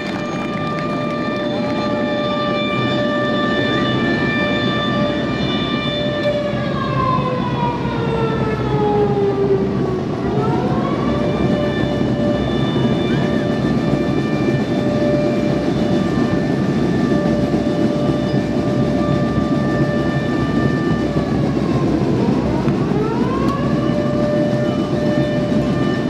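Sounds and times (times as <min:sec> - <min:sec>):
loud siren-like tone: 0:00.0 - 0:26.0.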